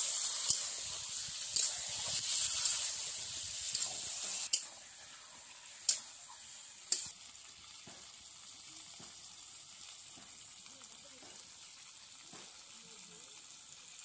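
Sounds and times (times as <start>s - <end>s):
chicken sizzling in pan: 0.0s - 14.0s.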